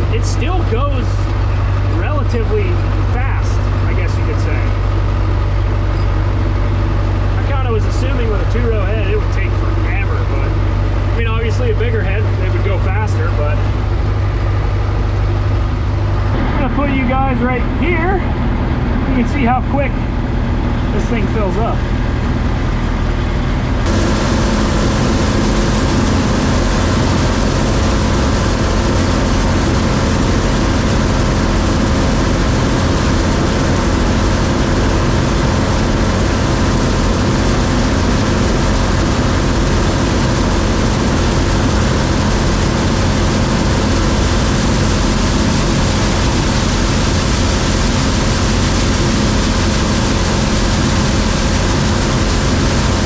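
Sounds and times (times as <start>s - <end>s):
combine harvester droning: 0.0s - 53.0s.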